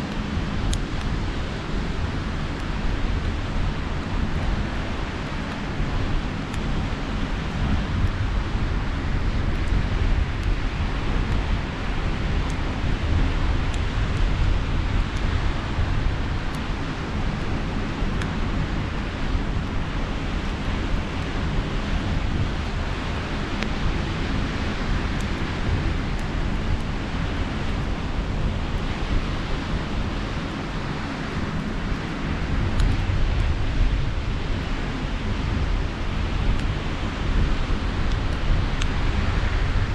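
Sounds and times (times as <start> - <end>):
campfire crackles: 0.0 - 39.9
sea surf washing: 0.0 - 39.9
wind rumbling on microphone: 0.0 - 39.9.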